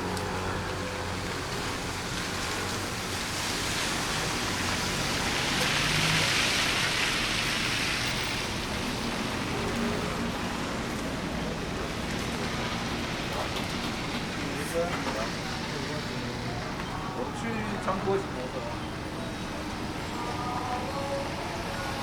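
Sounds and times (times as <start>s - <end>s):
low engine hum: 0.0s - 22.0s
rain hissing on street: 0.0s - 22.0s.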